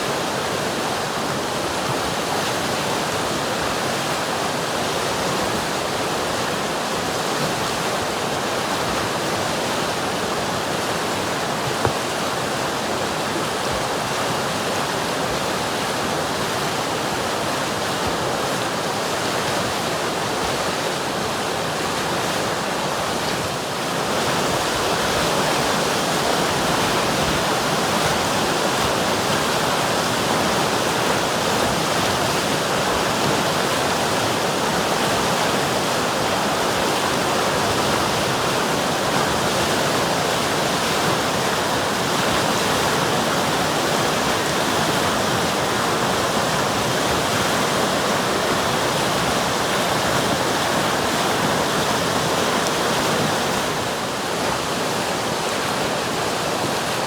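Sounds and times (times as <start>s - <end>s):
river water rushing and splashing: 0.0s - 57.0s.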